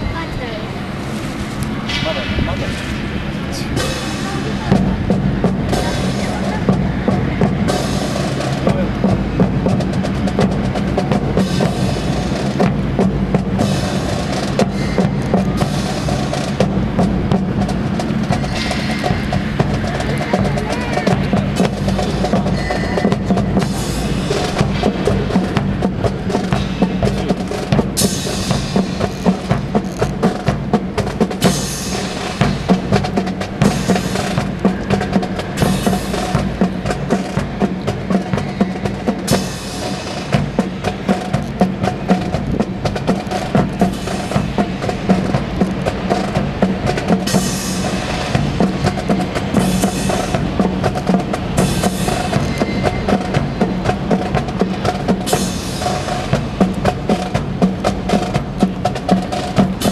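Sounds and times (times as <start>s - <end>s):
march music: 0.0s - 59.9s
steady drum beat: 0.0s - 59.9s.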